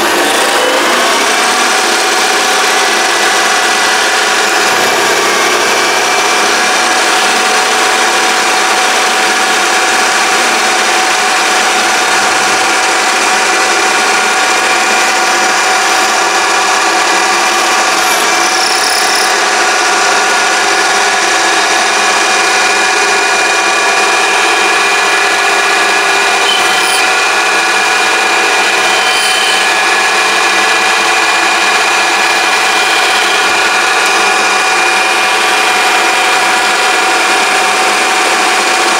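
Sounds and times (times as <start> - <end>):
lathe motor whine: 0.0 - 38.9.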